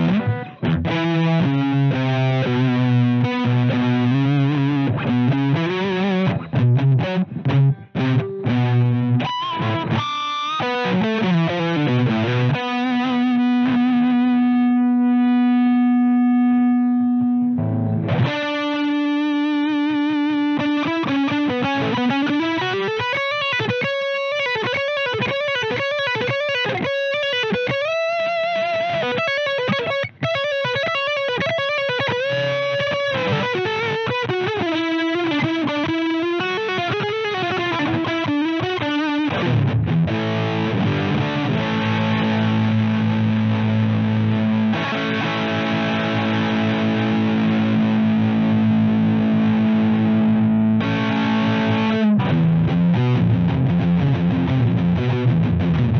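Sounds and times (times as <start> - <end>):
distorted electric guitar: 0.0 - 55.9.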